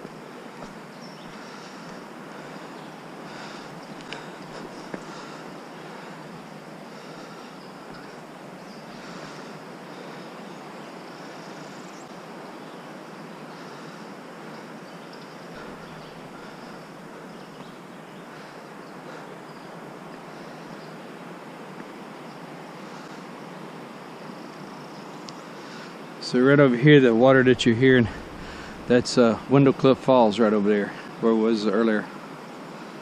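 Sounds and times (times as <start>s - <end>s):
distant waterfall rushing: 0.0s - 33.0s.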